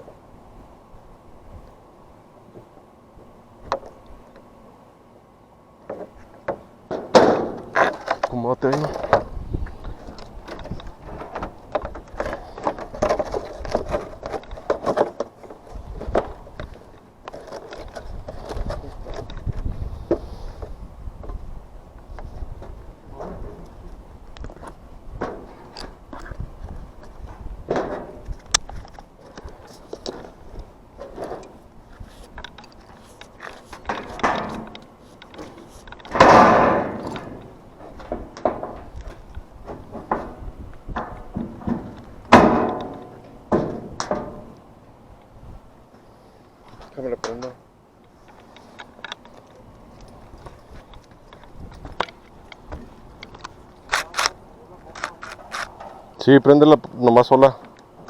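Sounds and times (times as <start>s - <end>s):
parts scraping clicking and knocking: 5.8s - 21.4s, 22.0s - 44.7s, 46.6s - 58.0s.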